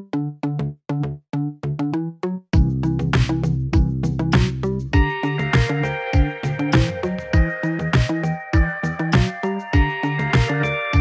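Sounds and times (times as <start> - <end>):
electronic music with steady beat: 1.8 - 11.0.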